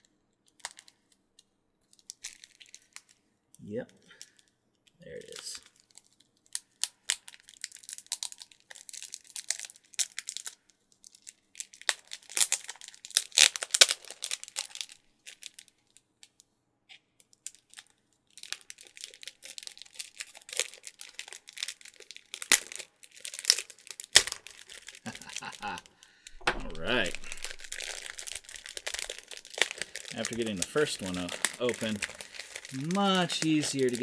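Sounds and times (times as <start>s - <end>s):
plastic wrapping crinkling and tearing: 0.0s - 1.1s, 1.9s - 3.2s, 5.1s - 16.0s, 17.3s - 34.0s.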